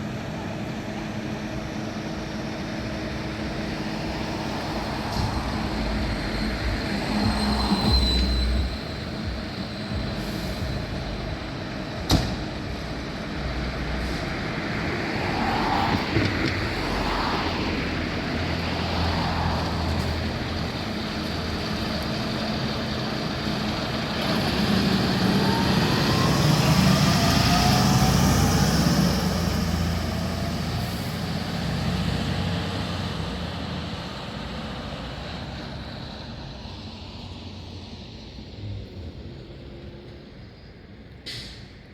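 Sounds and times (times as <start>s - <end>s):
fire engine driving: 0.0s - 41.9s
road noise: 0.0s - 41.9s.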